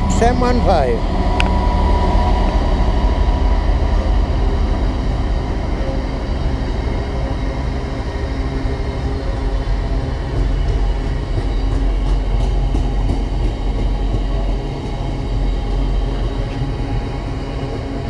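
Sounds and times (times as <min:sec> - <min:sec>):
diesel train engine rumble: 0:00.0 - 0:18.0.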